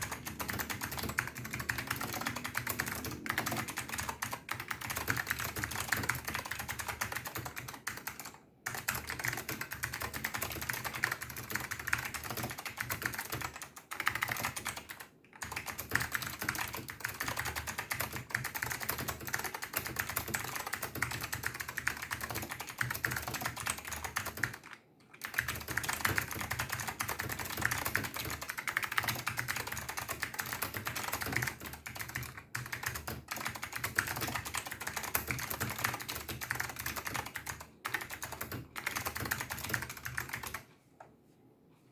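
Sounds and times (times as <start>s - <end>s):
fast keyboard typing clicks: 0.0s - 40.7s.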